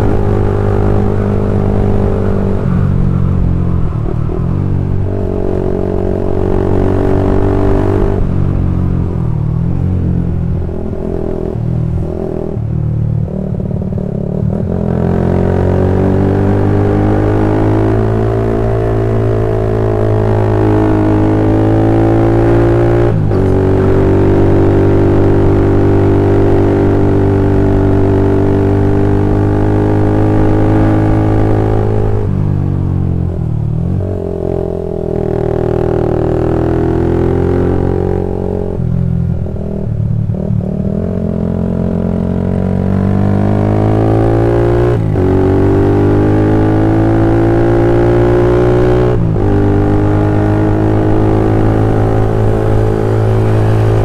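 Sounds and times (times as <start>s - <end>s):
motorcycle exhaust drone: 0.0s - 54.0s.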